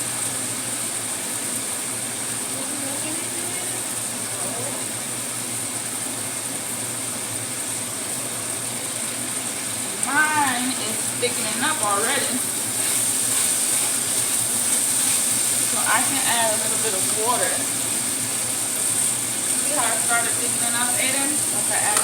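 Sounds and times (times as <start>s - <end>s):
sauce sizzling in a pan: 0.0s - 22.0s.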